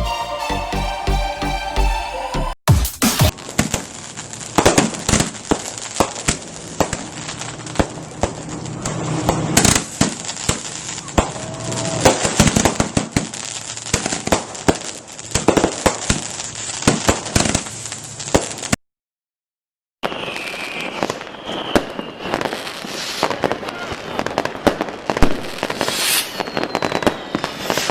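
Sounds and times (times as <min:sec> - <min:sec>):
fireworks bangs and pops: 0:02.7 - 0:18.8, 0:20.0 - 0:27.9
fireworks crackling: 0:02.9 - 0:18.8, 0:20.0 - 0:27.9.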